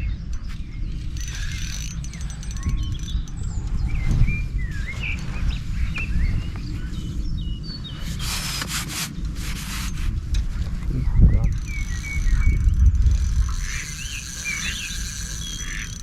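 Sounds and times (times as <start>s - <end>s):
low steady rumbling: 0.0s - 16.0s
songbirds chirping: 0.0s - 16.0s.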